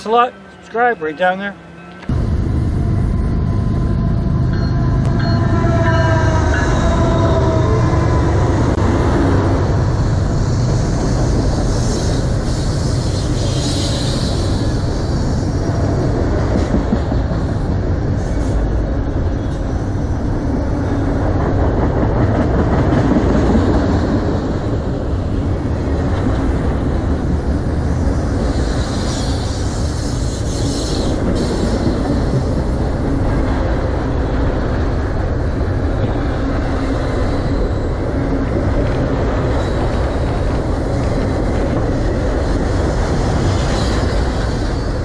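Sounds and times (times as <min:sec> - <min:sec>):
steel train wheels on rails: 0:08.7 - 0:45.0.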